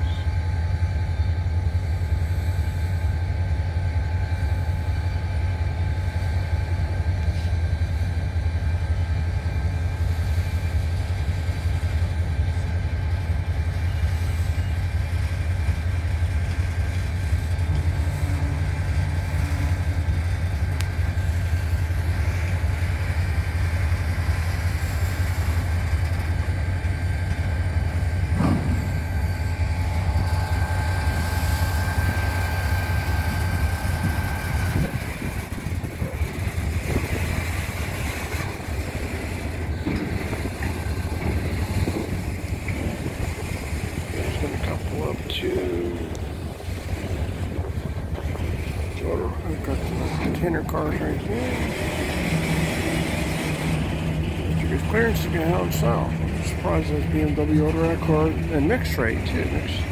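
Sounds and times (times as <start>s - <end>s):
train cars rumbling: 0.0s - 59.9s.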